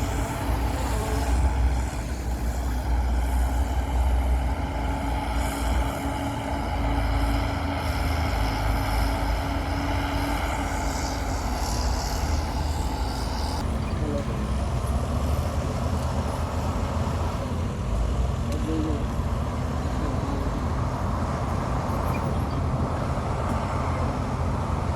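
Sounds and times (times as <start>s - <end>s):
diesel engines droning: 0.0s - 24.9s.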